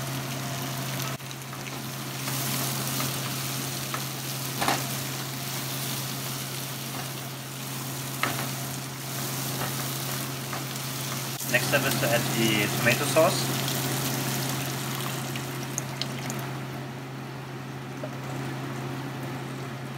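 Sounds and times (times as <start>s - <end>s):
vegetables sizzling in oil: 0.0s - 16.9s.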